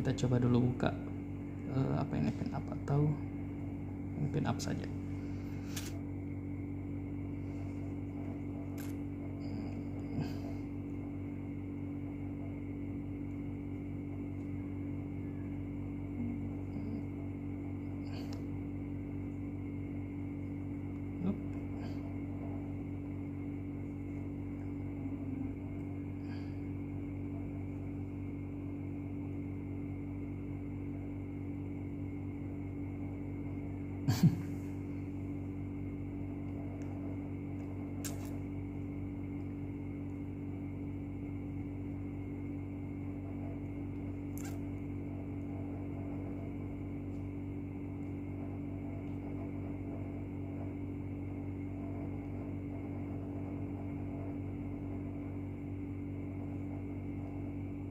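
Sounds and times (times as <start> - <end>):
electrical mains hum: 0.0 - 57.9.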